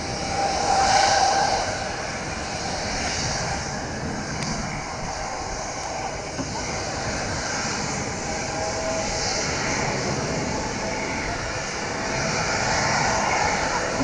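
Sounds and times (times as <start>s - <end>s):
distant jet airliner climbing: 0.0s - 14.0s.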